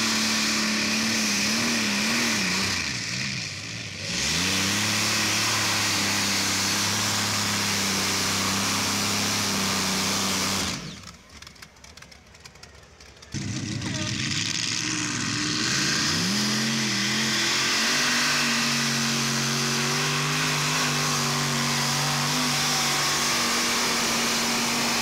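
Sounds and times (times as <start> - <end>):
tractor engines revving: 0.0 - 25.0.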